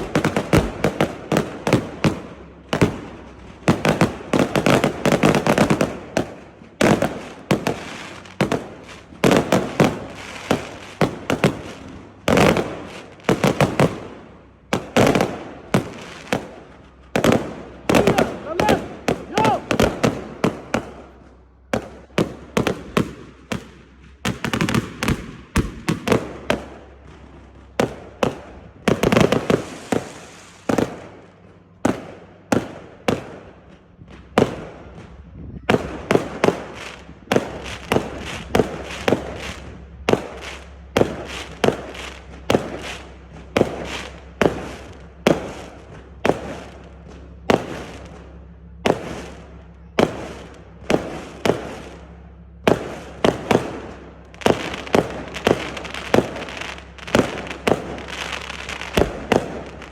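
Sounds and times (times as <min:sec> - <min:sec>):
fireworks banging: 0:00.0 - 0:59.9.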